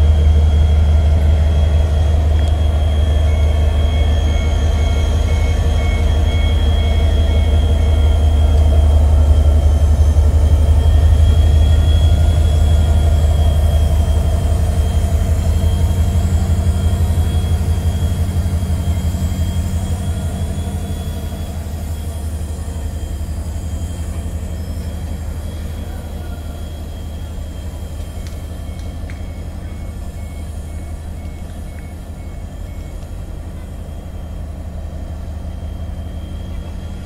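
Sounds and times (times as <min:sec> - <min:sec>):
diesel locomotive engine drone: 0:00.0 - 0:37.0
high whine: 0:00.0 - 0:37.0.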